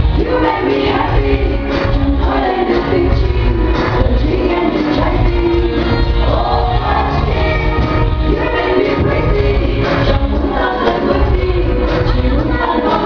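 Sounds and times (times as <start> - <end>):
band music with heavy bass: 0.0 - 13.0
woman singing into microphone: 0.0 - 13.0.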